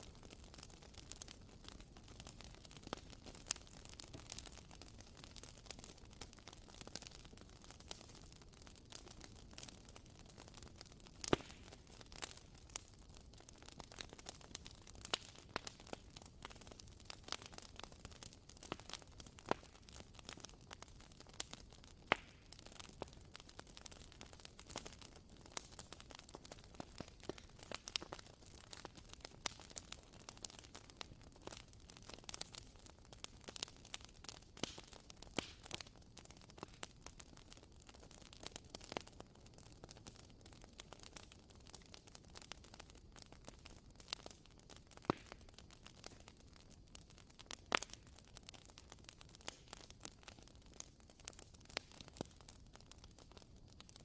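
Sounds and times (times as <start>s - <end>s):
candle crackling: 0.0s - 54.0s.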